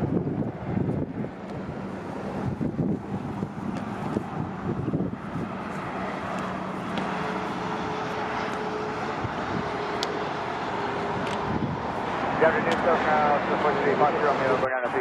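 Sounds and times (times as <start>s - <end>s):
high steady whine: 0.0s - 15.0s
jet engine rush with low hum: 0.0s - 15.0s.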